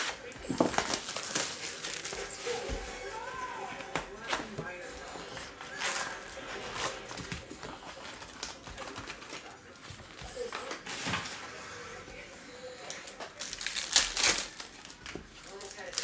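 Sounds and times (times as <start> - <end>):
foil packs crinkling: 0.0 - 2.9, 3.8 - 11.4, 13.1 - 16.0.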